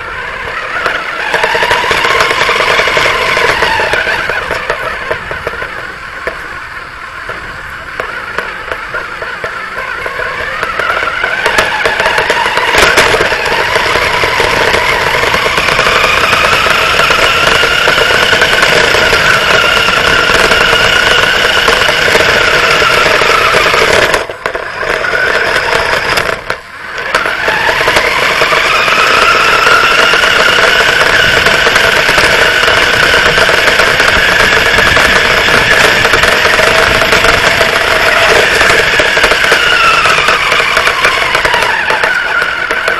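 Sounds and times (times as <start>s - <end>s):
rc car motor running: 0.0s - 6.6s, 7.2s - 42.9s.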